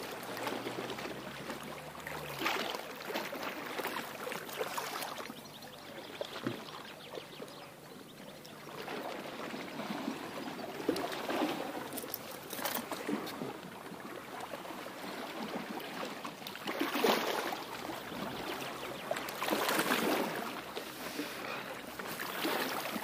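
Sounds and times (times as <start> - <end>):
small waves lapping on rocks: 0.0 - 23.0.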